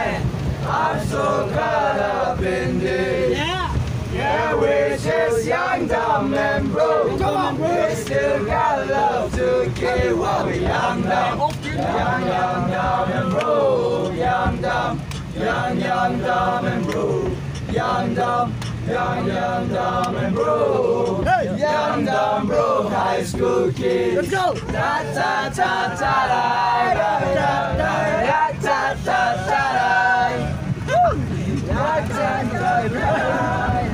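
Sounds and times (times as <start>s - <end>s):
bus low hum: 0.0s - 33.9s
young men chanting in unison: 0.0s - 33.9s.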